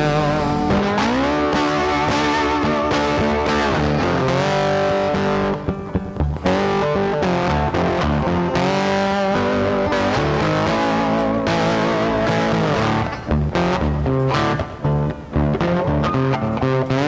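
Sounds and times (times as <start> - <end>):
rock music with distorted guitar: 0.0 - 17.0.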